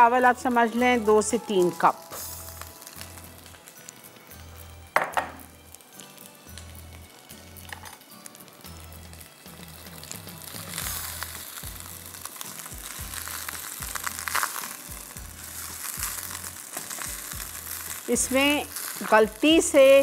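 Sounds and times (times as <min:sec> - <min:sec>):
quiet background music: 0:00.0 - 0:20.0
rice sizzling in oil: 0:00.0 - 0:20.0.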